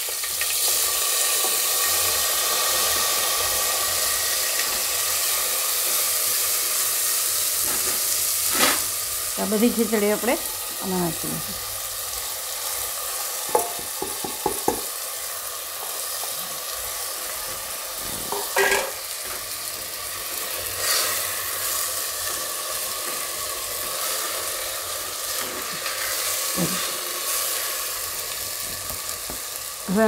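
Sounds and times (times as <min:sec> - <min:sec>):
rice sizzling in ghee: 0:00.0 - 0:30.0.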